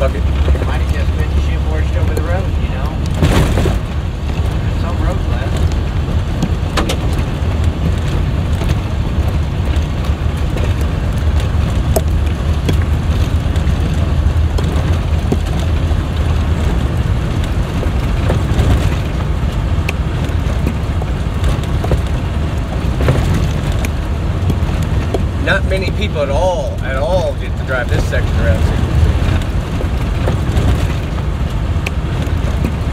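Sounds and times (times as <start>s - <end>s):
bus engine and tyres rumbling: 0.0s - 32.9s
sharp rattles from bumps: 0.0s - 32.9s.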